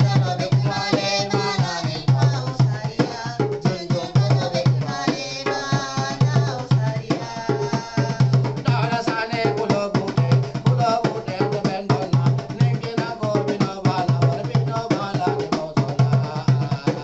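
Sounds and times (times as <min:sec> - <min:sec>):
hand drum fast rhythm: 0:00.0 - 0:17.0
person singing: 0:00.0 - 0:17.0.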